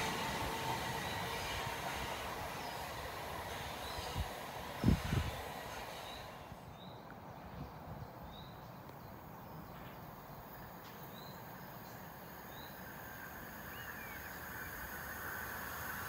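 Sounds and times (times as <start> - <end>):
electric train hum: 0.0 - 8.2, 9.1 - 16.0.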